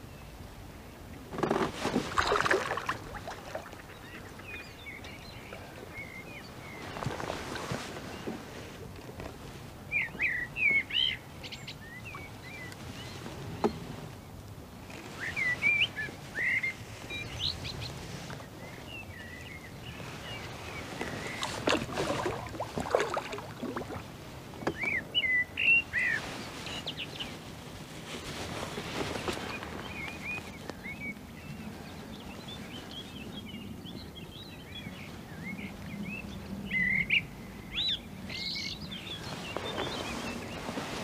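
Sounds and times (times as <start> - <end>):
songbird chirping: 1.4 - 14.4, 15.0 - 27.6, 28.2 - 41.0.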